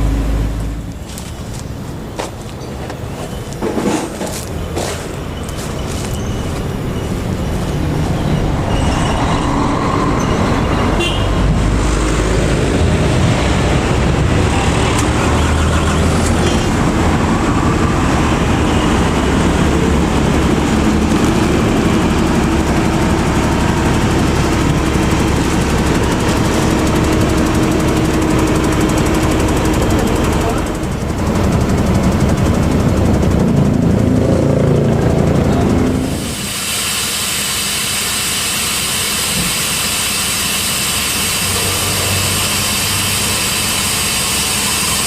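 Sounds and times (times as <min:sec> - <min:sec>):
heavy truck engine running: 0:00.0 - 0:45.0.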